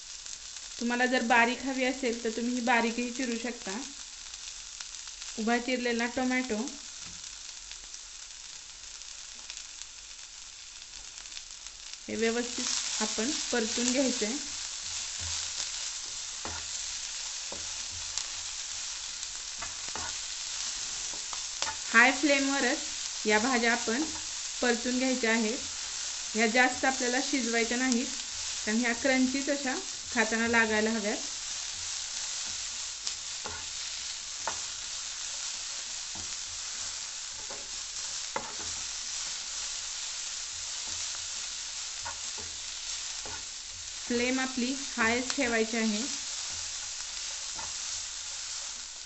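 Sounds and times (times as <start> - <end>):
vegetables sizzling in hot oil: 0.0 - 49.0.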